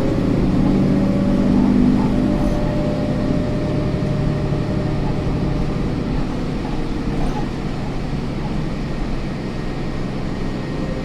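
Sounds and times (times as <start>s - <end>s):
bus engine drone: 0.0s - 11.0s
road rumble: 0.0s - 11.0s.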